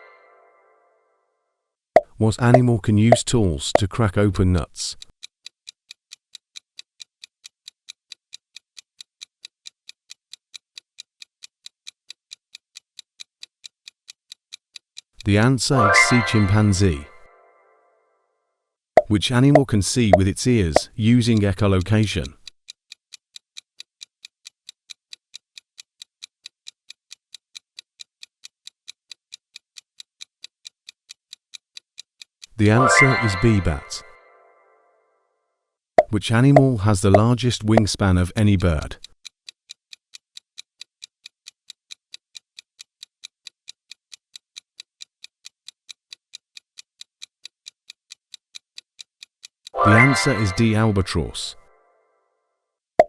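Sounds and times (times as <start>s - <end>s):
clock ticking: 2.0s - 17.4s, 19.0s - 34.5s, 36.0s - 51.9s.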